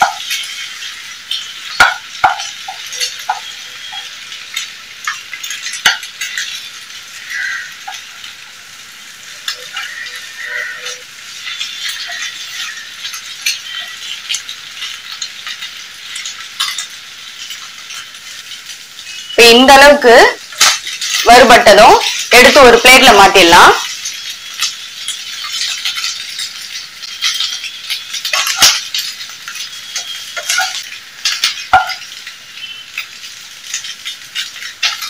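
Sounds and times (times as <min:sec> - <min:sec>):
eggs sizzling in oil: 0:00.0 - 0:35.0.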